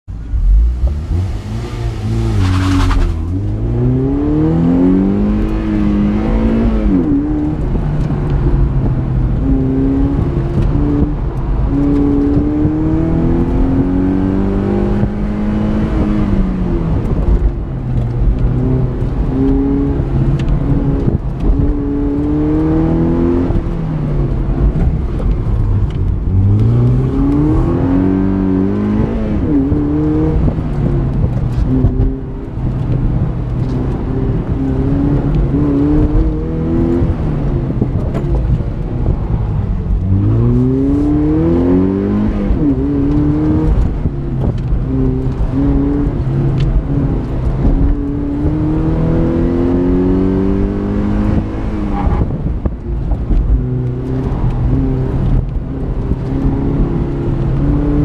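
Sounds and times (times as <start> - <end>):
car engine revving: 0.1 - 58.0.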